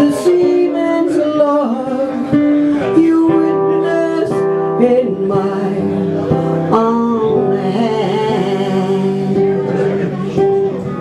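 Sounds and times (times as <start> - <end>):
acoustic guitar: 0.0 - 11.0
person singing: 0.0 - 11.0.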